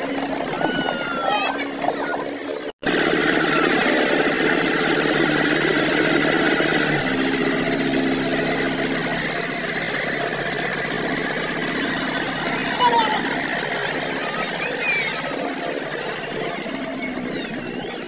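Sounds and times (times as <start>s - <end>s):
diesel tractor engine under load: 0.0s - 18.0s.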